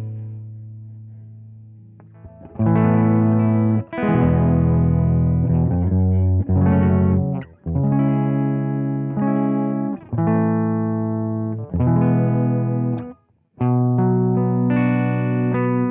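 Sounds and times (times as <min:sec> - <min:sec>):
distorted electric guitar chords: 0:01.8 - 0:15.9.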